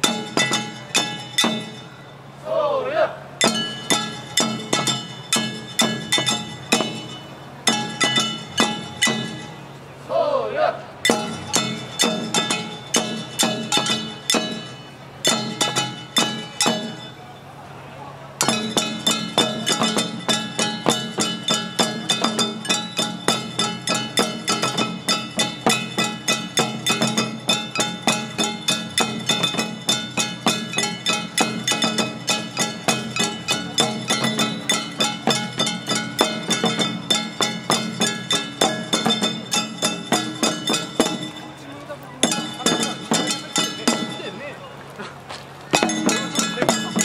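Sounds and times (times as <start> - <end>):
drums struck in fast rhythm: 0.0 - 2.0, 3.4 - 9.6, 11.0 - 17.2, 18.4 - 41.6, 42.2 - 44.6, 45.7 - 47.0
gongs ringing: 0.0 - 2.4, 3.2 - 10.1, 10.8 - 47.0.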